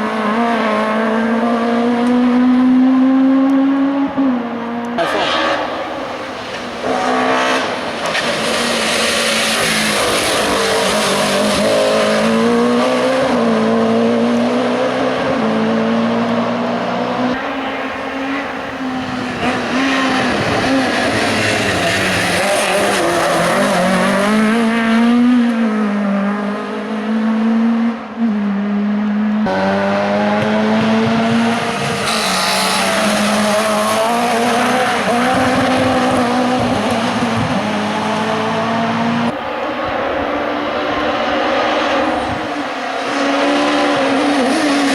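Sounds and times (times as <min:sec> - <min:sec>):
race car engines revving: 0:00.0 - 0:44.9.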